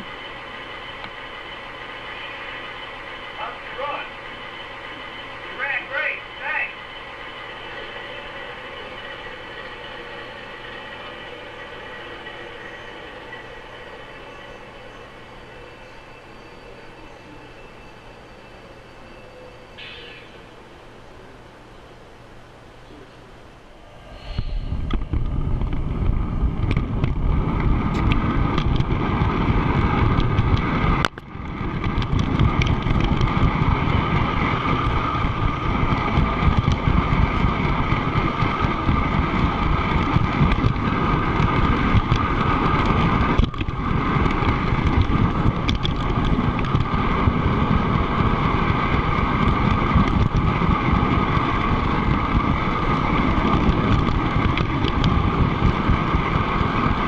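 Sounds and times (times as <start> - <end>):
model train rumble and whine: 0.0 - 57.0.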